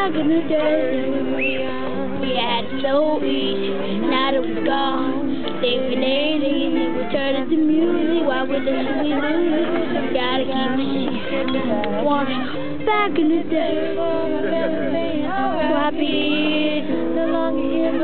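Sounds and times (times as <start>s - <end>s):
voices singing along: 0.0s - 18.0s.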